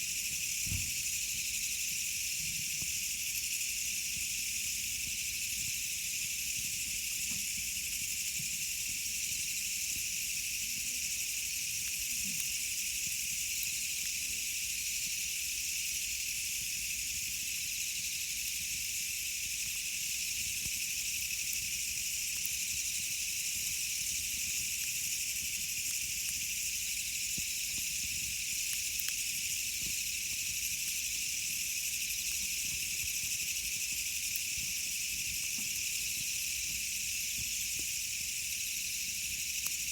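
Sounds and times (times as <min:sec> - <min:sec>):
campfire crackles: 0:00.0 - 0:39.9.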